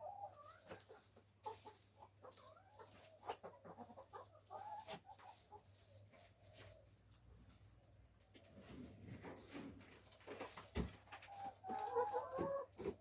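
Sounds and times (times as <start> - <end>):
hens clucking softly: 0.0 - 13.0.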